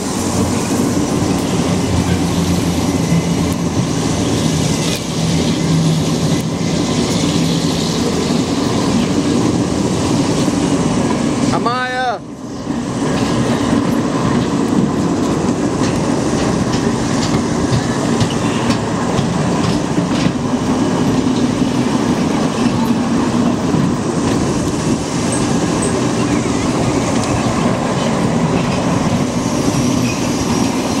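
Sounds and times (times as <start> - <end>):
roller coaster wheels rumbling on rails: 0.0 - 31.0.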